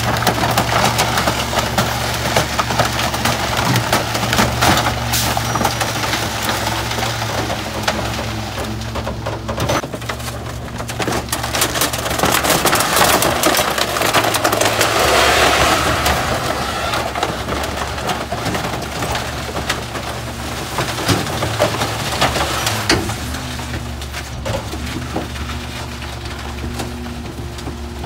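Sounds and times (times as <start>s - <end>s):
truck engine hum: 0.0s - 28.0s
wood snapping and splintering: 0.0s - 28.0s.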